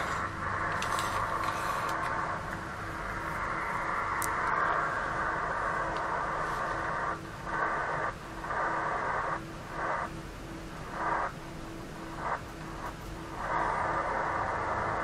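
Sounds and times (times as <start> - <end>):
low pulsing interference tone: 0.0 - 15.0
radio static and band noise: 0.0 - 15.0.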